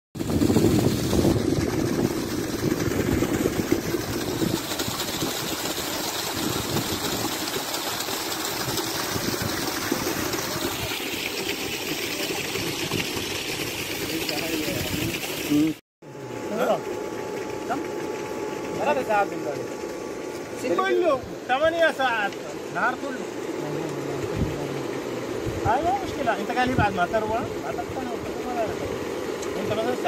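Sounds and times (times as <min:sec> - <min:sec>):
water gushing onto bricks: 0:00.2 - 0:15.8, 0:20.6 - 0:30.0.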